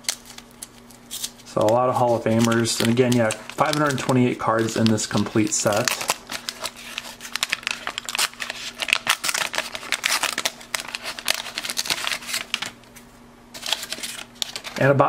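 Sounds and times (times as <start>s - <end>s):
paper wrapper crinkling: 0.0s - 15.0s.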